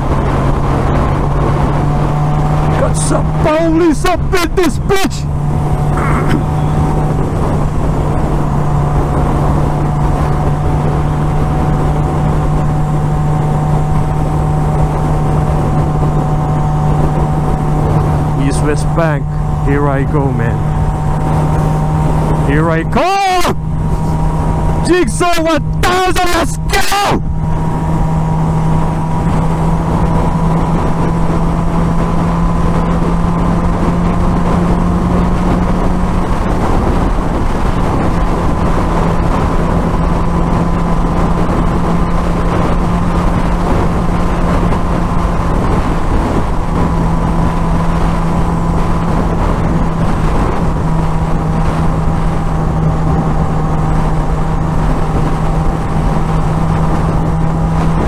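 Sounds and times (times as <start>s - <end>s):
motorcycle engine cruising: 0.0s - 58.0s
wind noise on microphone: 0.0s - 58.0s.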